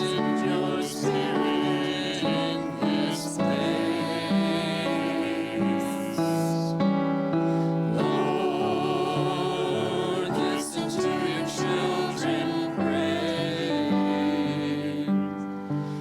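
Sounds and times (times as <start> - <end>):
voices singing a hymn: 0.0 - 16.0.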